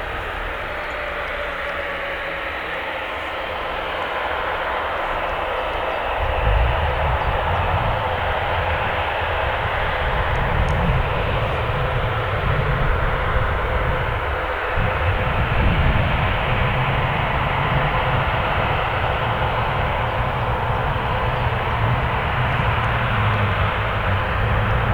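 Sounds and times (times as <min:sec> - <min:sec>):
jet engine roar: 0:00.0 - 0:24.9
deep rumble: 0:03.3 - 0:24.9.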